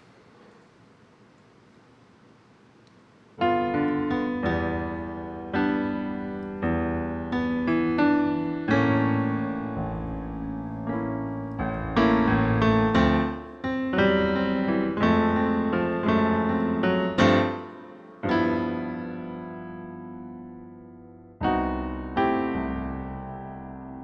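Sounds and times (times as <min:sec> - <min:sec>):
piano chords: 0:03.4 - 0:24.0.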